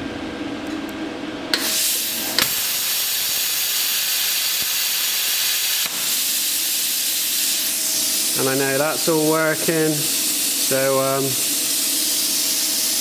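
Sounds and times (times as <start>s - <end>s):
plasma cutter torch hissing: 1.5s - 13.0s.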